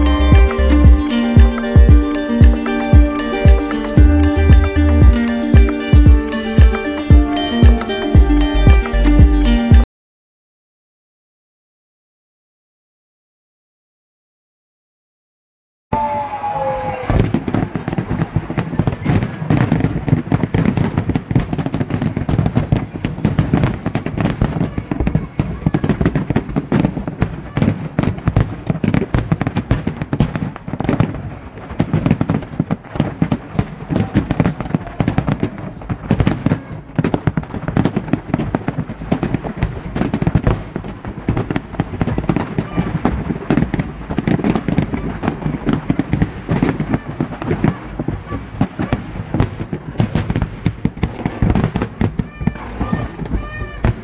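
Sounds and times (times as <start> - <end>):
fireworks bursting and crackling: 0.0 - 9.9, 16.0 - 54.0.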